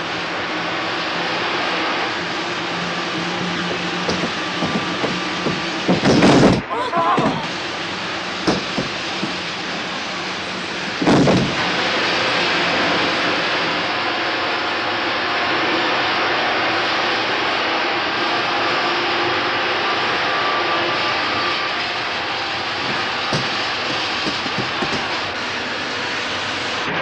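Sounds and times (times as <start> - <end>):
metro train rushing through tunnel: 0.0 - 27.0.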